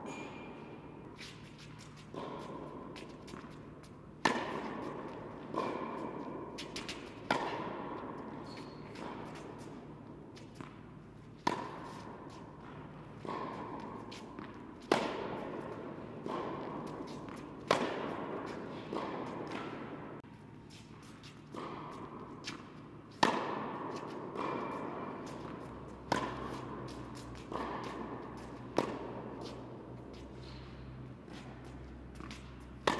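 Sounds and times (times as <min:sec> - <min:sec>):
racket hitting tennis ball: 0:00.0 - 0:32.9.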